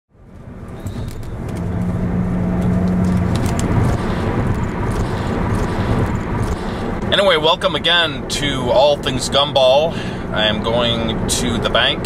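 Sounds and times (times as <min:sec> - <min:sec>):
car cabin road noise: 0:00.1 - 0:12.0.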